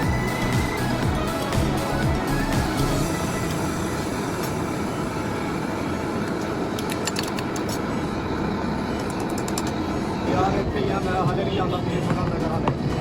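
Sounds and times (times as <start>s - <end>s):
mechanical running noise: 0.0s - 10.8s.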